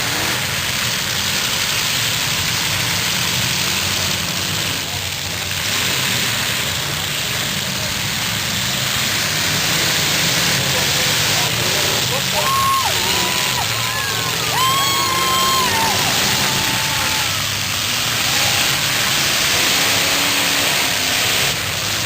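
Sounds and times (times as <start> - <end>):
car engines running: 0.0 - 22.0.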